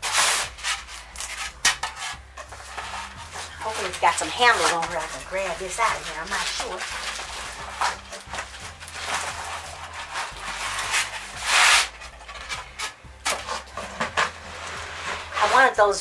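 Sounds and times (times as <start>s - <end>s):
cardboard scraping and cutting: 0.0s - 15.9s.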